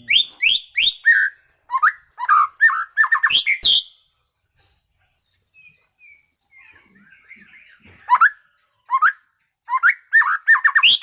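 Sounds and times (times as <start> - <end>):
bird singing whistled notes: 0.0 - 4.1, 5.3 - 11.0.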